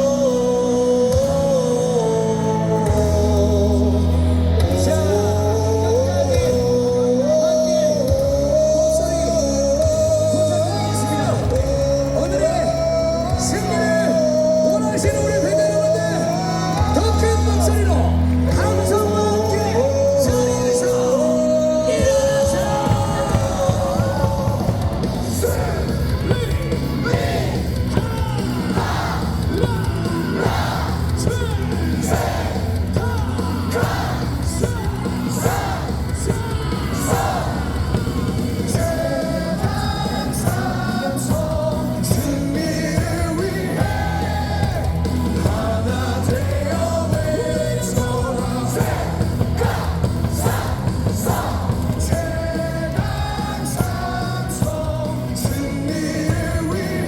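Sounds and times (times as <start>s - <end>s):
loud amplified music: 0.0s - 57.0s
stadium crowd singing and shouting: 0.0s - 57.0s.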